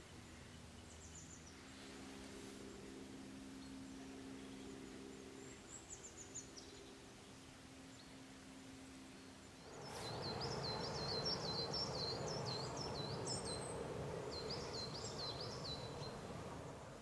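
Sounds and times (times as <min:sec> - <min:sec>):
low outdoor background rush: 0:00.0 - 0:17.0
songbird chirping: 0:00.0 - 0:17.0.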